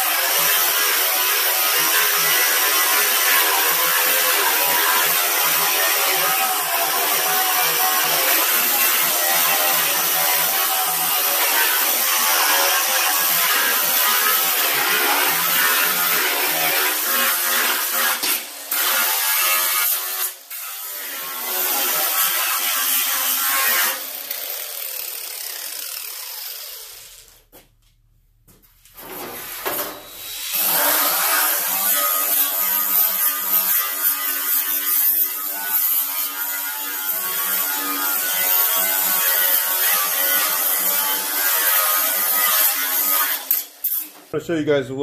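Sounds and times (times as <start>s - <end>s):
angle grinder grinding steel: 0.0s - 27.4s, 29.8s - 44.3s.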